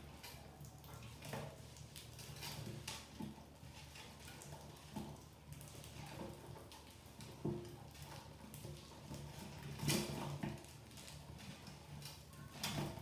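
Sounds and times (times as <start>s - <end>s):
mice scratching on cardboard: 0.0s - 13.0s.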